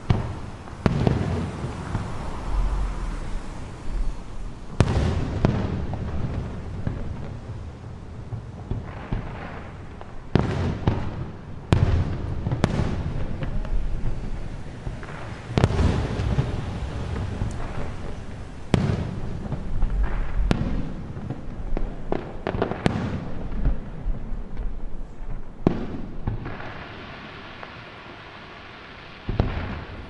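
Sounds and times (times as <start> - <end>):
rolling rumble of echo: 0.0 - 27.7
fireworks bursting with bangs: 0.0 - 30.0.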